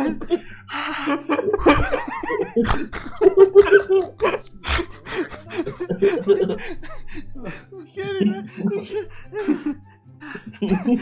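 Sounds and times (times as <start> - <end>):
people laughing uncontrollably: 0.0 - 11.0.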